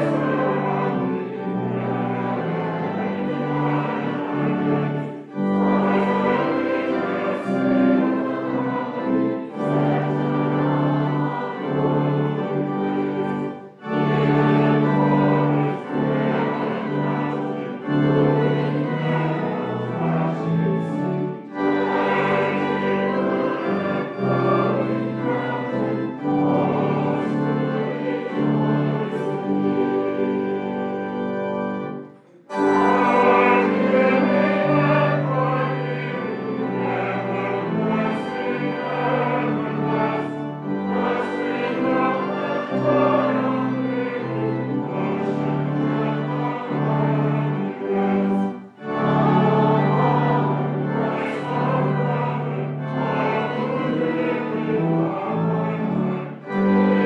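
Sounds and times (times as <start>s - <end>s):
congregation singing a hymn: 0.0s - 57.0s
organ: 0.0s - 57.0s.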